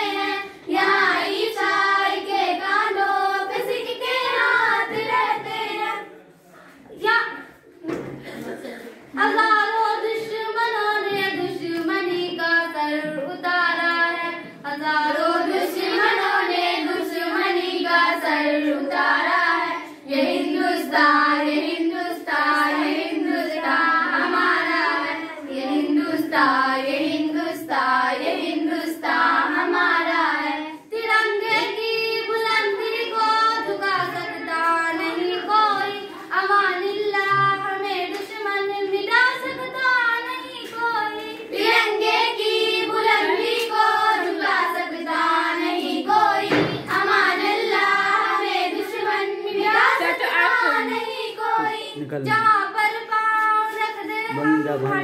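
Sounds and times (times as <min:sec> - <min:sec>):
girls singing into a microphone: 0:00.0 - 0:06.2, 0:06.8 - 0:55.0.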